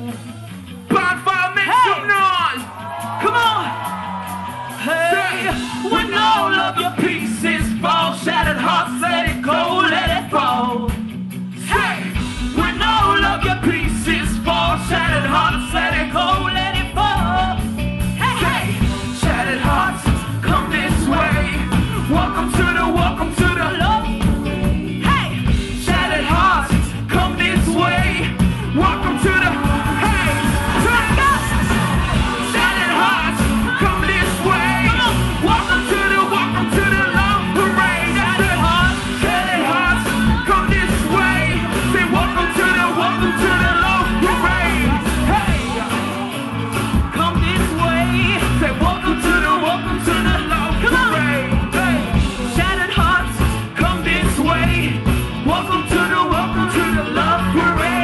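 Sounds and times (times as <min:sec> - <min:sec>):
loud music with heavy beat: 0:01.6 - 0:58.0
people rapping and singing: 0:04.6 - 0:11.0, 0:11.6 - 0:58.0.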